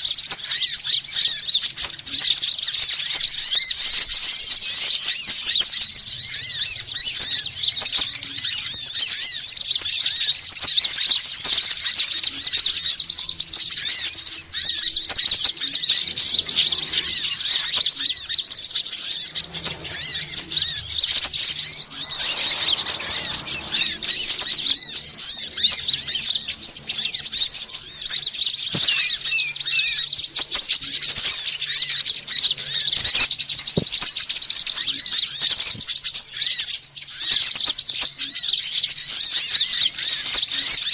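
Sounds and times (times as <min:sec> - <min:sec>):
songbirds chattering: 0:00.0 - 0:40.9.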